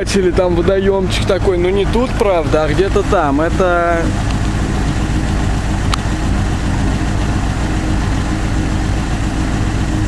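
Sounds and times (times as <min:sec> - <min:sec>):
van engine humming: 0:00.0 - 0:10.0.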